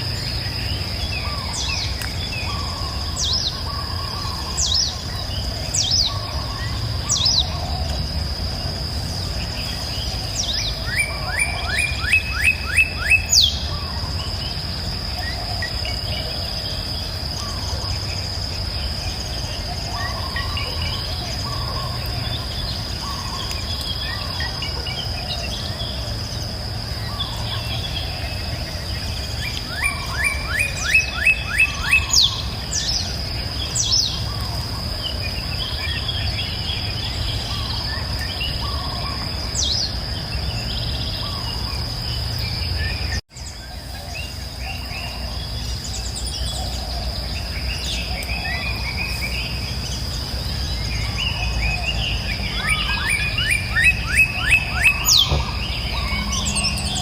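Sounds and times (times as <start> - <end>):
birds singing and calling: 0.0 - 57.0
high-pitched insect drone: 0.0 - 57.0.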